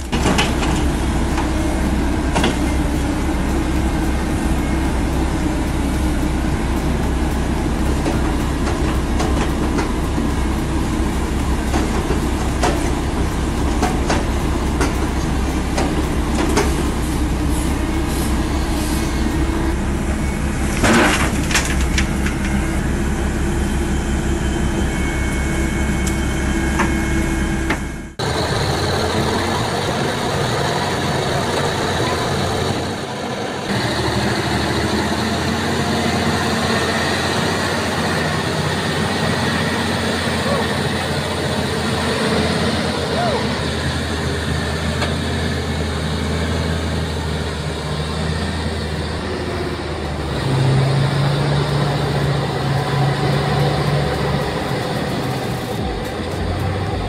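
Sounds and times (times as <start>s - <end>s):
excavator diesel engine under load: 0.0s - 57.0s
logging truck labouring through mud: 0.0s - 57.0s.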